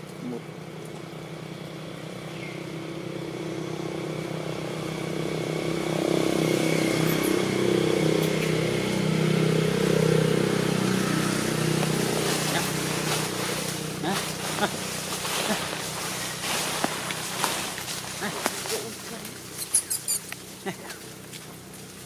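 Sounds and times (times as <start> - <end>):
vehicle engine passing by: 1.2 - 22.0.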